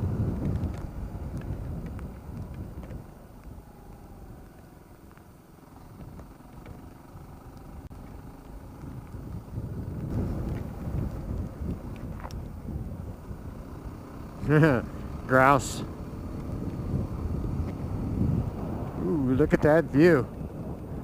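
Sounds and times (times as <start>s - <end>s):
wind noise: 0.0s - 7.0s, 7.8s - 21.0s
motorcycle engine running: 0.0s - 21.0s.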